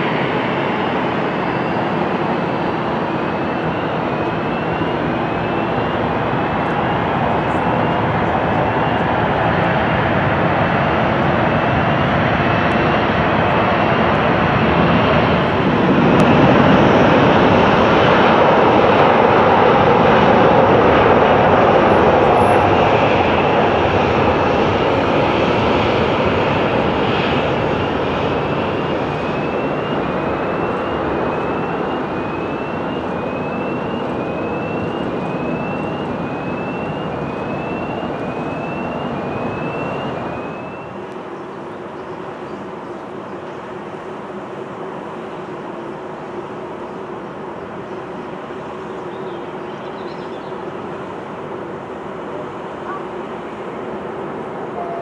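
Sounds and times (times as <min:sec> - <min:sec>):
jet airliner taking off: 0:00.0 - 0:55.0.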